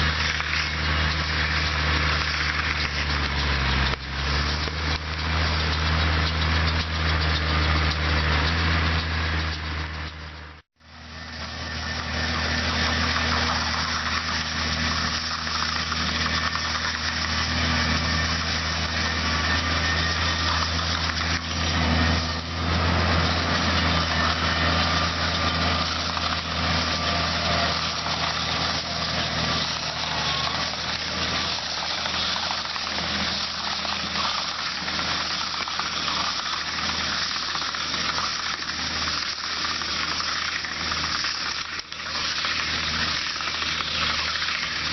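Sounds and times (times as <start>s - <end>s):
baler mechanical clatter: 0.0s - 44.9s
tractor engine running: 0.0s - 44.9s.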